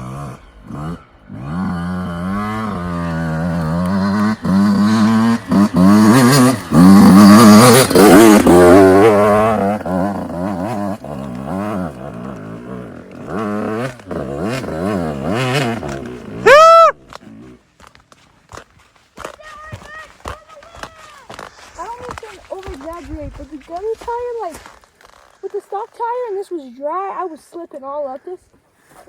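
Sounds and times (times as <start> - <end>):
dirt bike engine revving: 0.0 - 18.0, 19.2 - 26.5.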